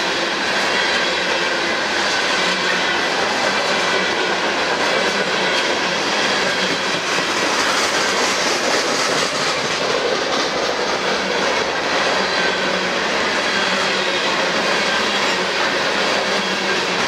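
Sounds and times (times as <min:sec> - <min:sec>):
freight train rumbling and clattering: 0:00.0 - 0:17.0.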